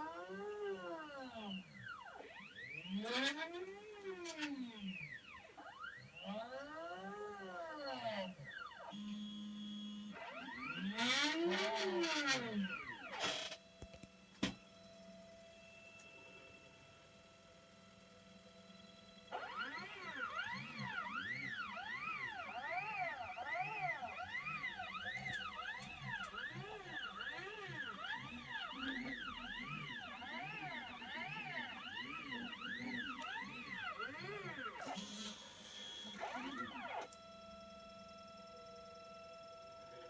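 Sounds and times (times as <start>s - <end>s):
stepper motors whining: 0.0s - 14.0s, 18.7s - 37.2s.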